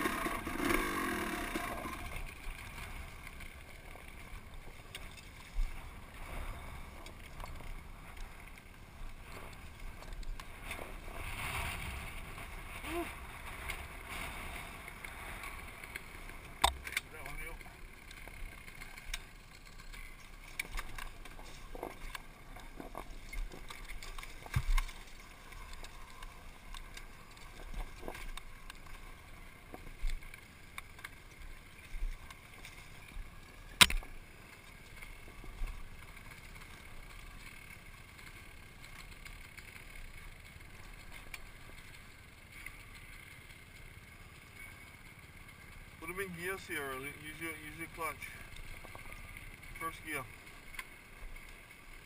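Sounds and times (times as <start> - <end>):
bike knocking and rattling: 0.0 - 52.0
dirt bike engine hum: 0.0 - 52.0.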